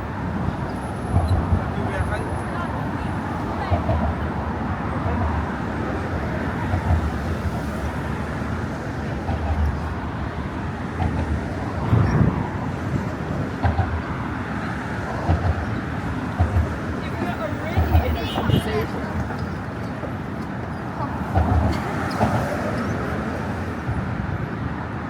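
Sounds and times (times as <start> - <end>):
traffic hum on bridge: 0.0 - 25.0.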